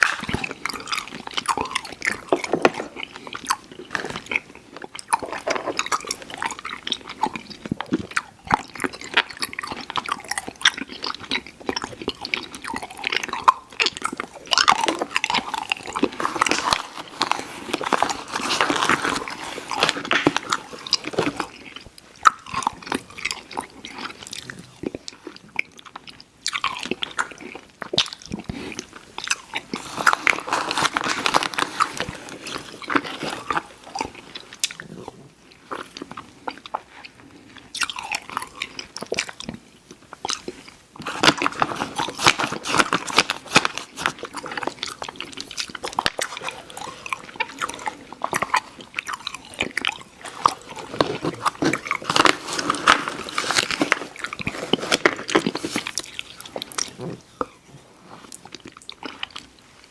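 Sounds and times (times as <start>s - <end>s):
person chewing candy: 0.0s - 59.9s.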